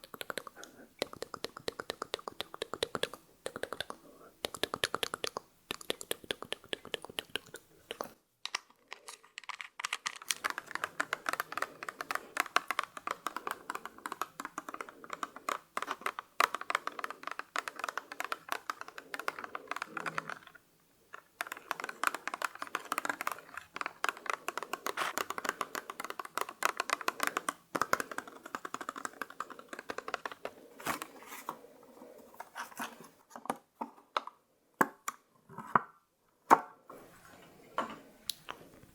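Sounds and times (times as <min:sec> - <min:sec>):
tapping and scratching on makeup: 0:00.0 - 0:31.7.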